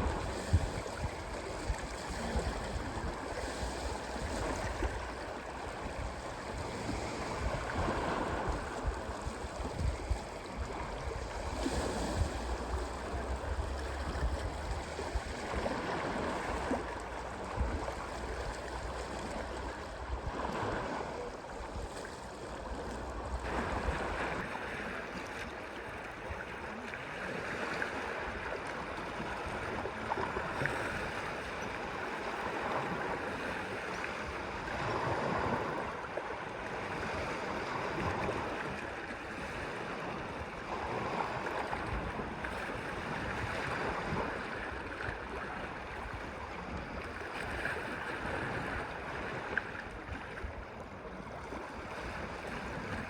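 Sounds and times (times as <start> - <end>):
water washing in swells: 0.0 - 53.0.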